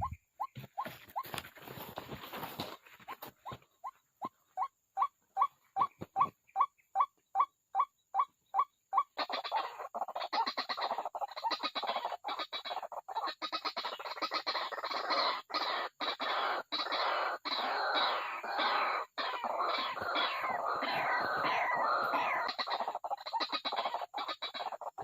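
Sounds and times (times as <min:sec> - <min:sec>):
waterhen calling: 0:04.6 - 0:25.0.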